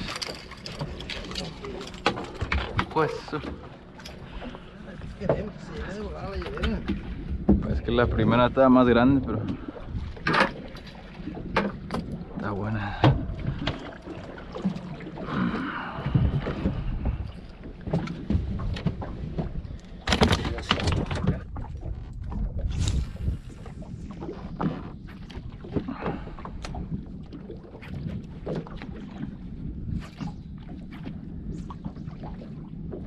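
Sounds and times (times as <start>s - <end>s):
water lapping: 0.0s - 33.0s
wind rumbling on microphone: 0.0s - 33.0s.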